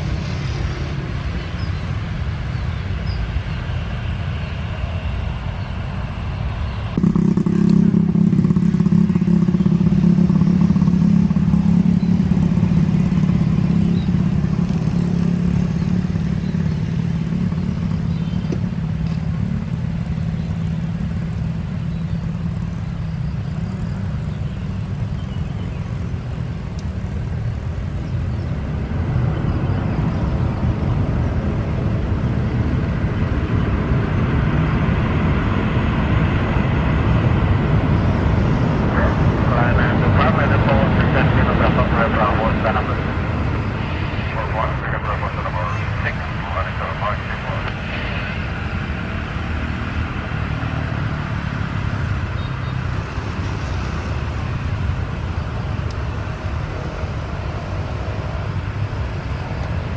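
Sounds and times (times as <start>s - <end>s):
jet engine noise: 0.0s - 59.9s
vehicle engine idling: 1.2s - 59.9s.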